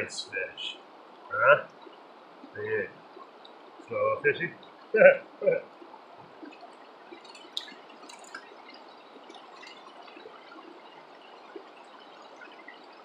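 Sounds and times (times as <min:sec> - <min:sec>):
small water splashes: 0:00.8 - 0:13.0.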